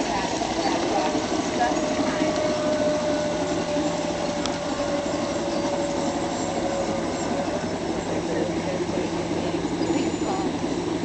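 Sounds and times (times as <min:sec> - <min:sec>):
model train motor whine: 0:00.0 - 0:11.0
rolling wheels on track: 0:00.0 - 0:11.0.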